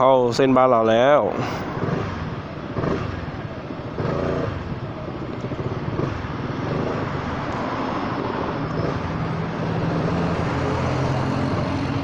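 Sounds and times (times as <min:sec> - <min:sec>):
wind and road noise: 0:00.0 - 0:12.0
scooter engine running: 0:01.8 - 0:12.0.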